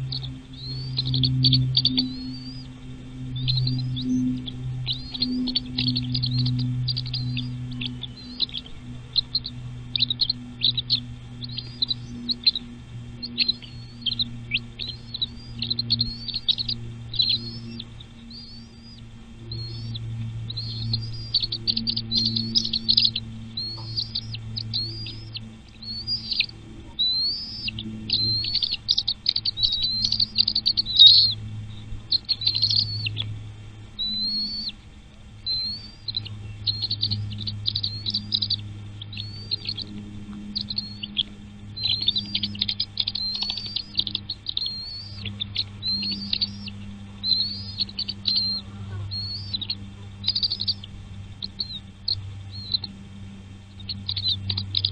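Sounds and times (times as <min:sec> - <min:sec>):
low steady hum: 0:00.0 - 0:54.9
nestling birds chirping: 0:00.0 - 0:54.9.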